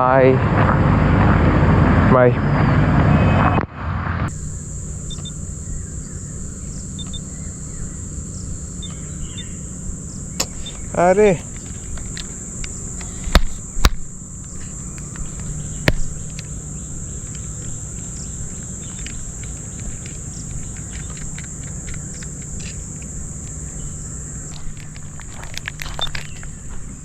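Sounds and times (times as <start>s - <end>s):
sharp clicks: 4.3s - 9.5s, 10.2s - 26.6s
insects buzzing: 4.3s - 27.0s.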